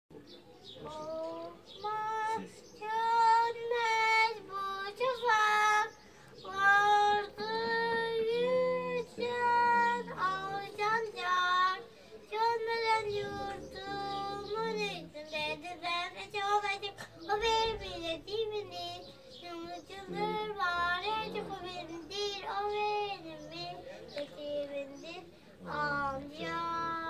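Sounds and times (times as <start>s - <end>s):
boy singing: 0.8s - 27.0s.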